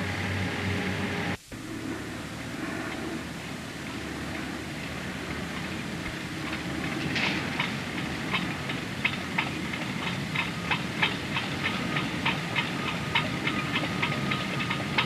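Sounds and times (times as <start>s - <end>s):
faint steady whine: 0.0s - 15.0s
ferry machinery rumbling: 0.0s - 15.0s.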